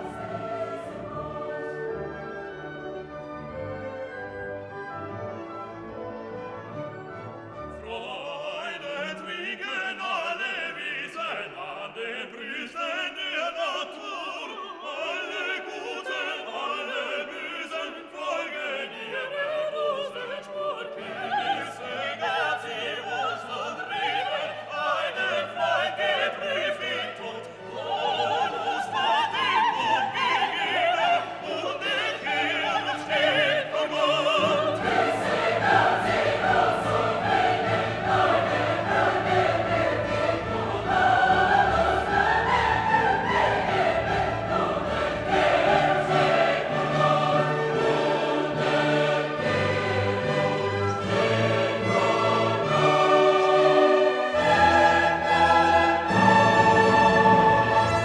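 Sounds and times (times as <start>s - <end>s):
orchestra with operatic singing: 0.0s - 58.0s.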